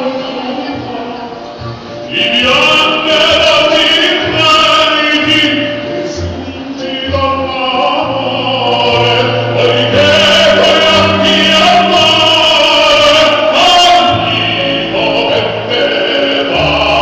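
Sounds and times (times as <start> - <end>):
opera singers singing: 0.0 - 17.0.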